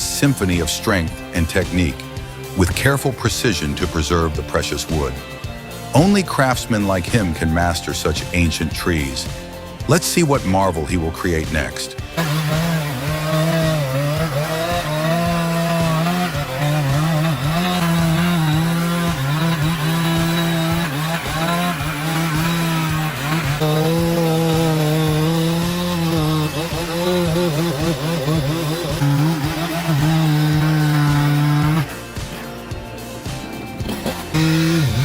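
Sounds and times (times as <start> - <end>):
chainsaw cutting tree trunk: 0.0 - 35.0.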